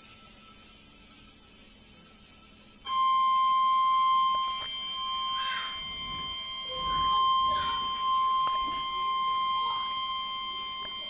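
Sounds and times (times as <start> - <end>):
high alarm beep: 0.0 - 11.0.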